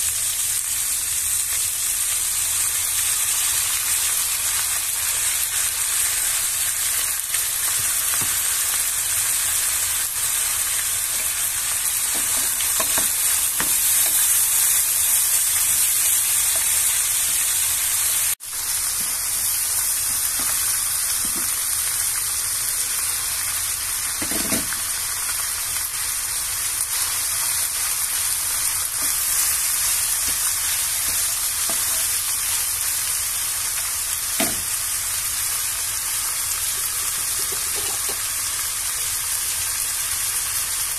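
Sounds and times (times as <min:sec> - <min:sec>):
vegetables sizzling in a wok: 0:00.0 - 0:40.9.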